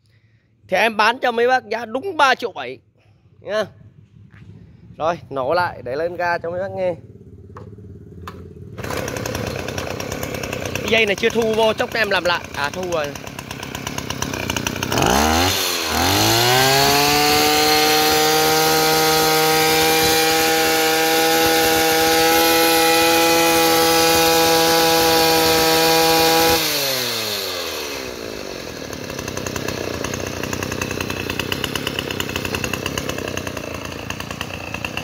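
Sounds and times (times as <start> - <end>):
two-stroke engine revving: 6.8 - 35.0.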